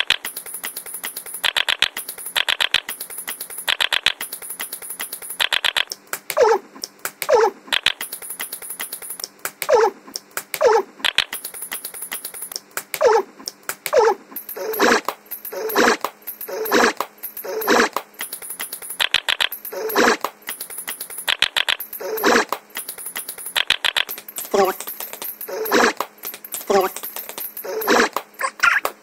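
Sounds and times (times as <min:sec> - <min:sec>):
repeating hiss blocks: 0:00.0 - 0:28.4
sharp clicks: 0:00.0 - 0:29.0.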